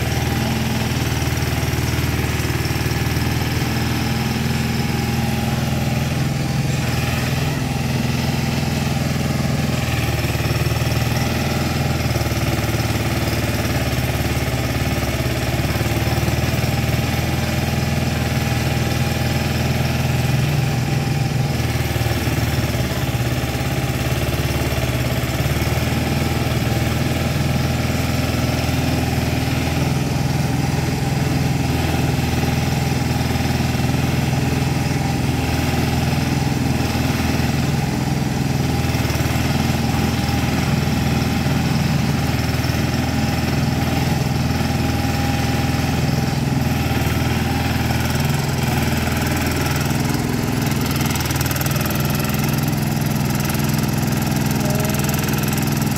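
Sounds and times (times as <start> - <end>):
backhoe engine running: 0.0 - 55.9.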